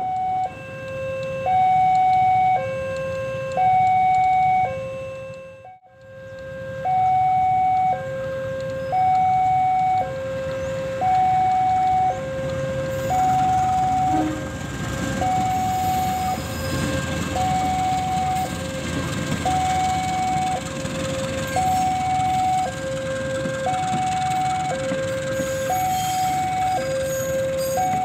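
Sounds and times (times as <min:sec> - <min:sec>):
diesel train passing: 0:00.0 - 0:28.0
two-tone crossing alarm: 0:00.0 - 0:28.0.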